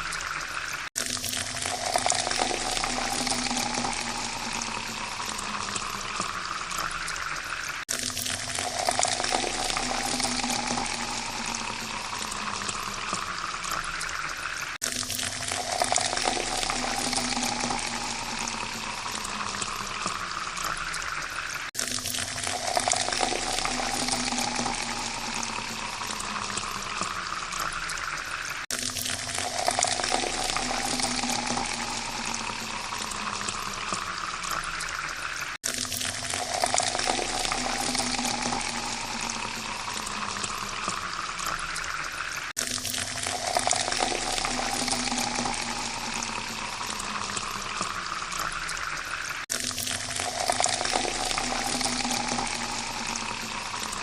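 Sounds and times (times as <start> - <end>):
water poured into a glass: 0.0 - 54.0.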